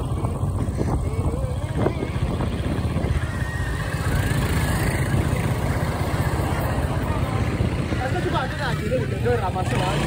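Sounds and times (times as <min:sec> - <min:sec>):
small motorcycle engine running: 0:00.0 - 0:10.0.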